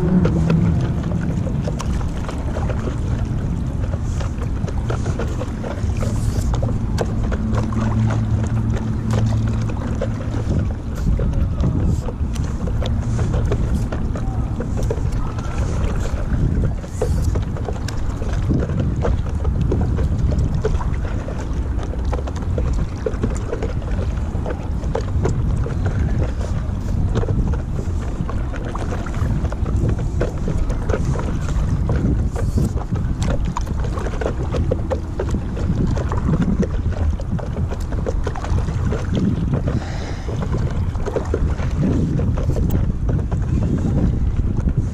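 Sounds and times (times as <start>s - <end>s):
paddle splashing water: 0.0s - 44.9s
wind buffeting microphone: 0.0s - 44.9s.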